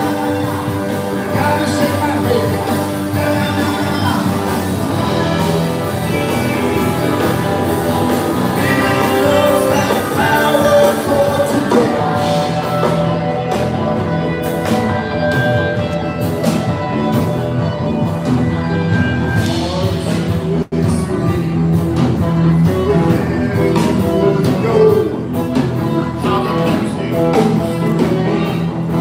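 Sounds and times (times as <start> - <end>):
rock music with singing: 0.0 - 29.0.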